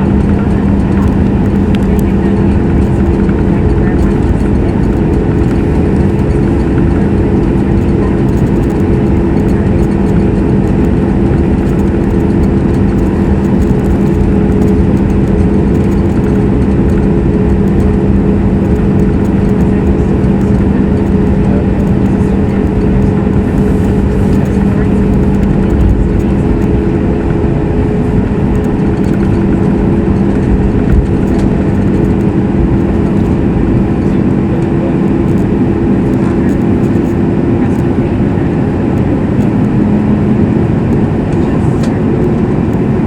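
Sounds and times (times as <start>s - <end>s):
jet engines running in cabin: 0.0s - 43.0s.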